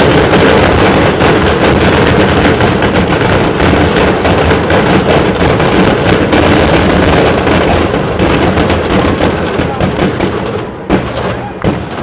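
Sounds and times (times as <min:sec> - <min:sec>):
firecrackers and fireworks popping: 0:00.0 - 0:12.0.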